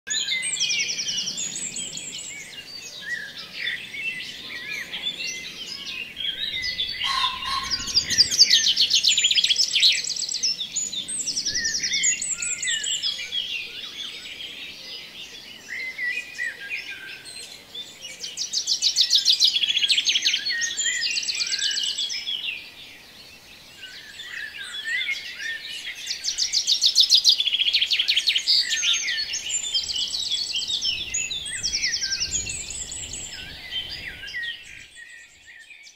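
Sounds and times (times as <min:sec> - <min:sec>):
songbirds chirping and trilling: 0:00.1 - 0:35.9.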